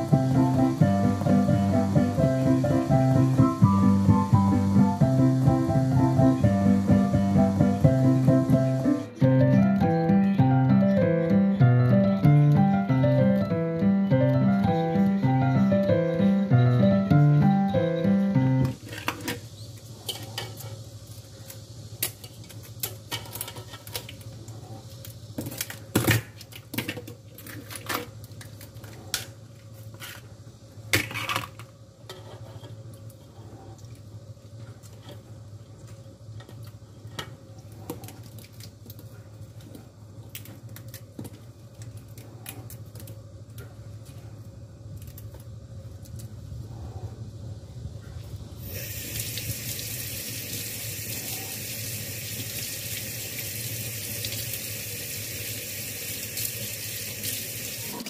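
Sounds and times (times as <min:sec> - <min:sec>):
steady low hum: 0:00.0 - 0:53.4.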